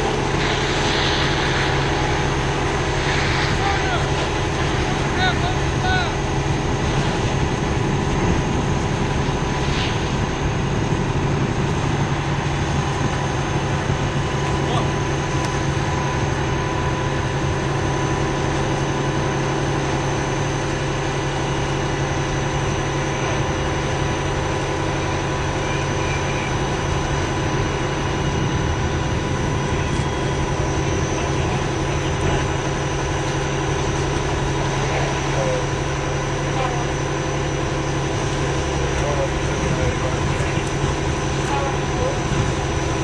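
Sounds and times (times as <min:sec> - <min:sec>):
large engine droning: 0:00.0 - 0:43.0.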